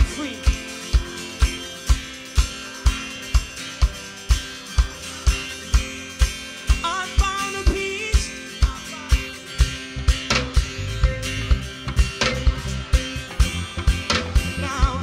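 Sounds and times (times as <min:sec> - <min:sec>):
band playing instrumental: 0:00.0 - 0:15.0.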